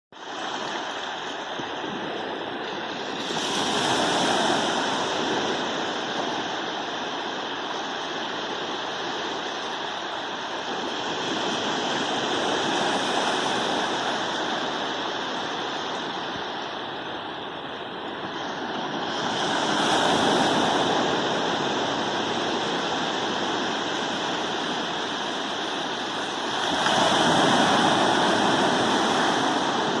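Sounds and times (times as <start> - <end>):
waves washing on beach: 0.2 - 30.0.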